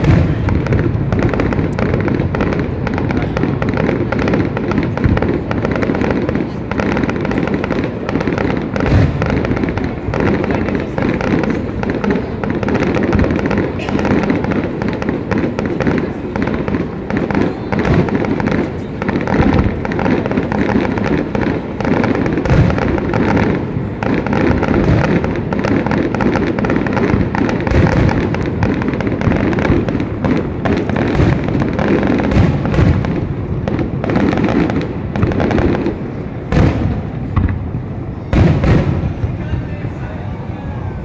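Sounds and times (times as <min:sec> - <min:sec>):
fireworks booming and crackling: 0:00.0 - 0:41.0.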